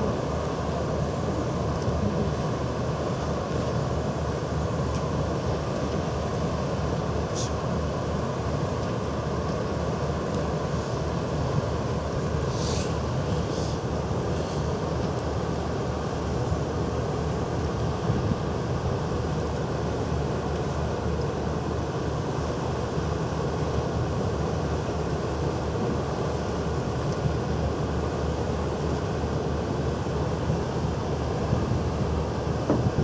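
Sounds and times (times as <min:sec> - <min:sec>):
boat engine low rumble: 0:00.0 - 0:33.0.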